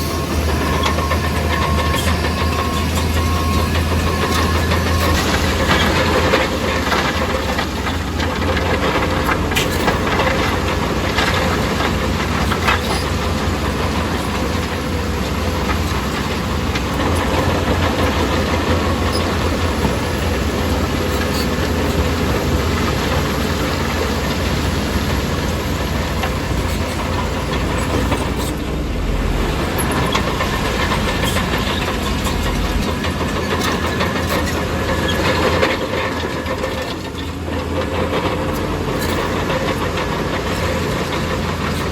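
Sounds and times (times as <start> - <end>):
bulldozer diesel engine running: 0.0 - 41.9
steel tracks and rock clanking: 0.0 - 41.9.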